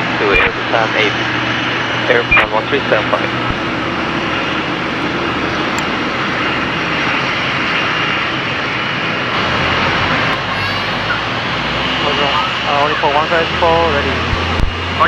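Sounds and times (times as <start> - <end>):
jet engines whooshing: 0.3 - 15.0.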